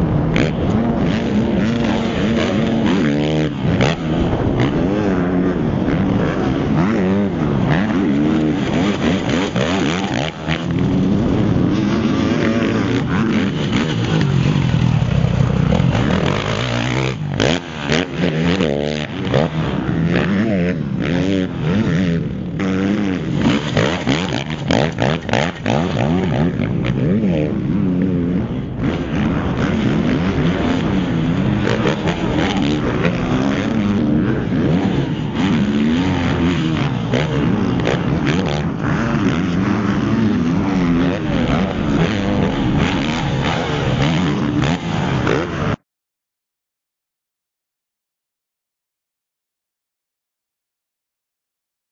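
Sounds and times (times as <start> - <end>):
motocross bike engine revving: 0.0 - 45.8
steady rush of noise: 0.0 - 45.8.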